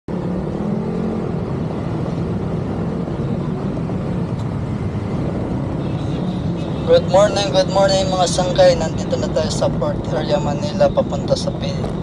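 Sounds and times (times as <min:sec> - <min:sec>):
road and wind noise: 0:00.1 - 0:12.0.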